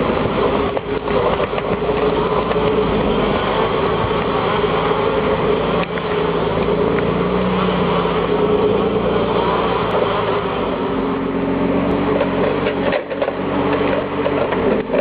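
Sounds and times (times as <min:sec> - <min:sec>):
steady whine: 0:00.0 - 0:15.0
tractor diesel engine under load: 0:00.0 - 0:15.0.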